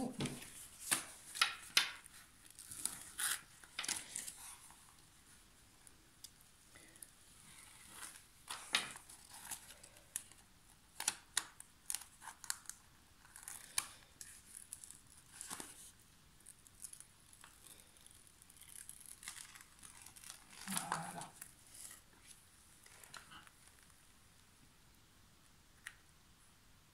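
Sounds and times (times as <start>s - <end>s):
paper sheet crackling and rustling: 0.0s - 6.0s, 6.8s - 24.0s.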